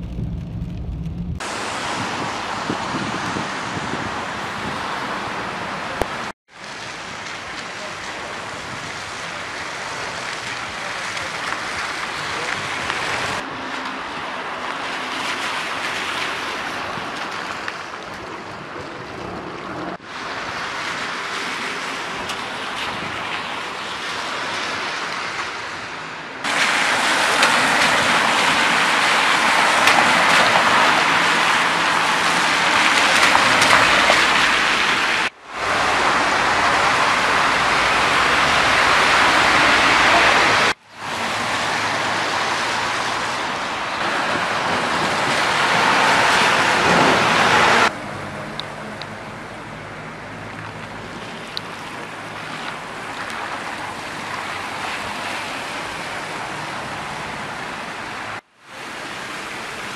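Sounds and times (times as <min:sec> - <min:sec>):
rain: 0:00.0 - 0:59.9
traffic on wet street: 0:00.0 - 0:59.9.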